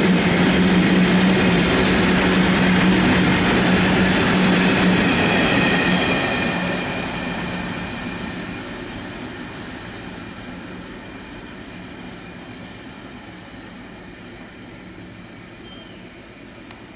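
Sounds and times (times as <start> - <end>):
freight train rumbling: 0.0 - 16.9.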